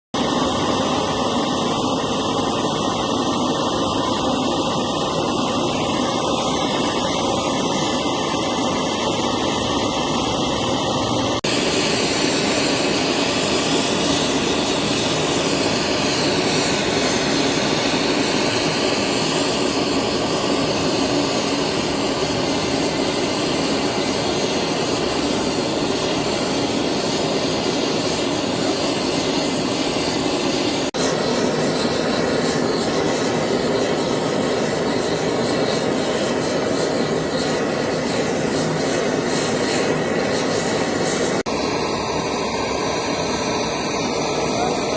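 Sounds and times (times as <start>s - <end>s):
loud machinery noise: 0.2s - 44.9s.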